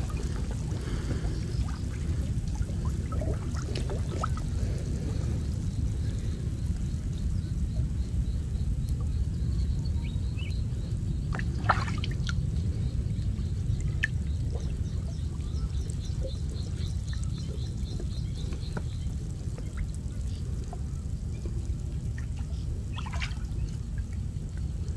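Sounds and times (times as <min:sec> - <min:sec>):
water splashing and dripping: 0:00.0 - 0:09.1, 0:11.3 - 0:24.9
steady low rumble: 0:00.0 - 0:24.9.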